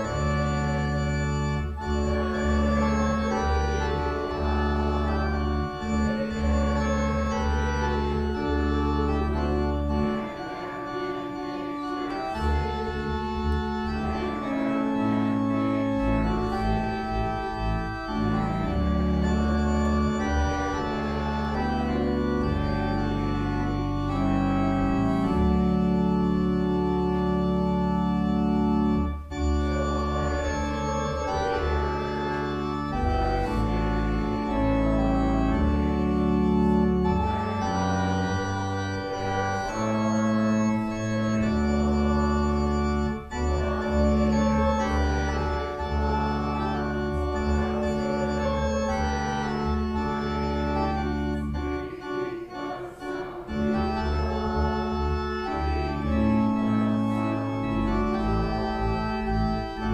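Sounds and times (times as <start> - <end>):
church organ playing: 0.0 - 59.9.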